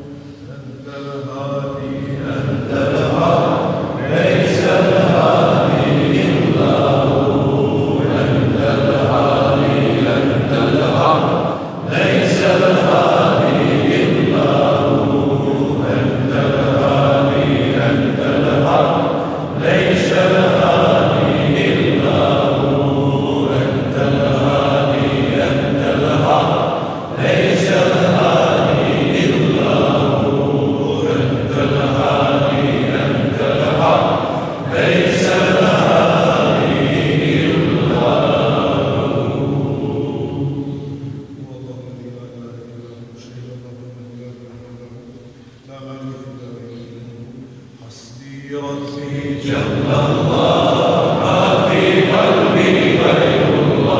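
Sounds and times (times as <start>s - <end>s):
men chanting together: 0.0s - 45.0s, 47.8s - 53.9s.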